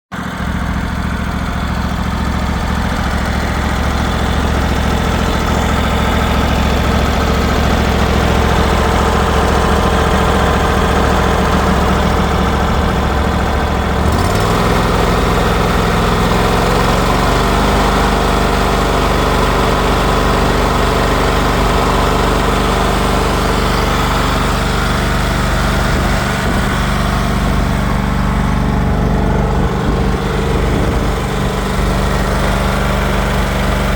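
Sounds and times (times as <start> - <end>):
riding lawn mower engine running: 0.1 - 33.9.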